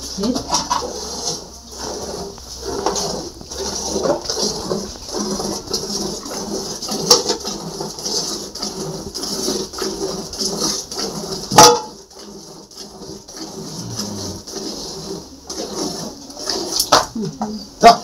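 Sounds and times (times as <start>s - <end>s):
milk squirting into metal pot: 0.4s - 17.1s.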